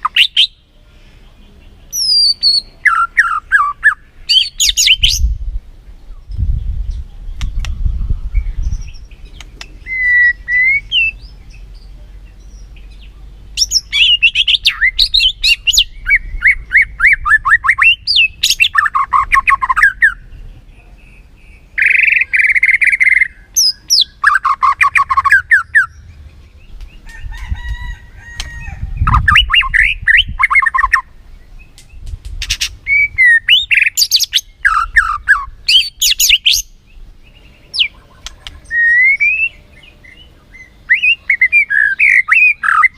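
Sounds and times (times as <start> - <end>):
songbird trilling and whistling: 0.0 - 0.7, 1.9 - 5.4, 6.0 - 42.9.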